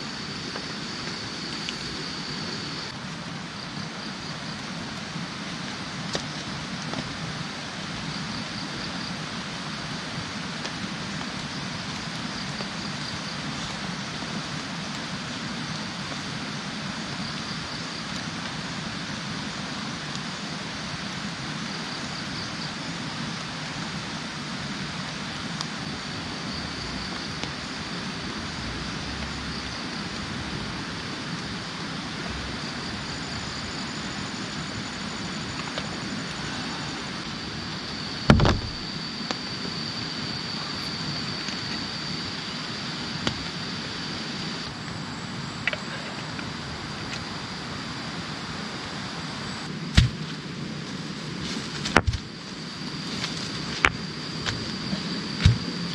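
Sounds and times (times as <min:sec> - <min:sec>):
steady rushing background noise: 0:00.0 - 0:55.9.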